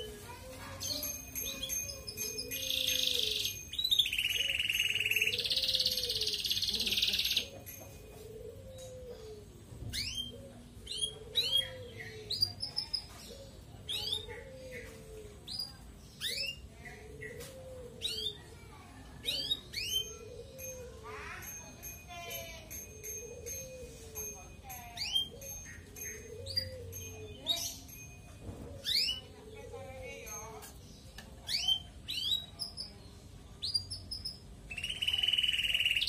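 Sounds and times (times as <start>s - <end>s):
canary singing trills and chirps: 0.0s - 36.0s.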